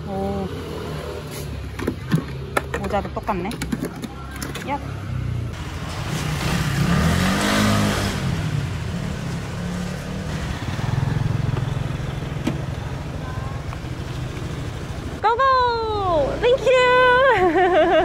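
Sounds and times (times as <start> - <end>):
street traffic: 0.0 - 18.0
motor scooter engine: 0.1 - 15.2.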